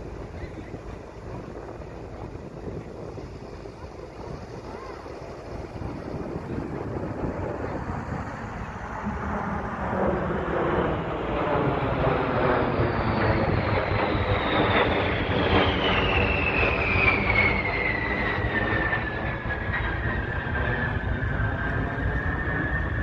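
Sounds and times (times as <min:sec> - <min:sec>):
jet plane passing overhead: 0:00.0 - 0:23.0.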